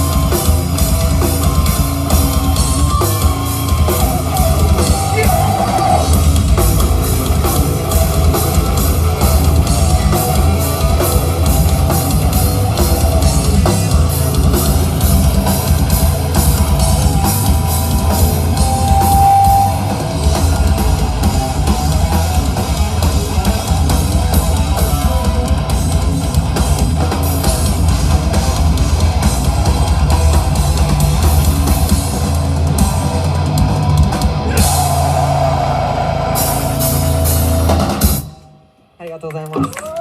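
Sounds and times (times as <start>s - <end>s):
drum kit with cymbals: 0.0s - 38.4s
rock band playing live: 0.0s - 38.7s
guitar: 0.0s - 40.0s.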